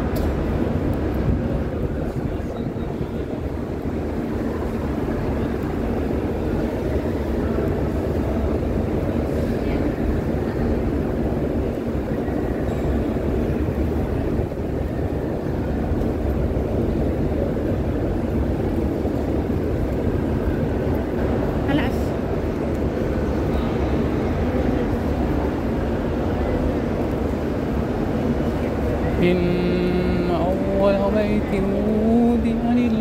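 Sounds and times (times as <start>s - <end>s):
crowd walking in indoor hall: 0.0s - 33.0s.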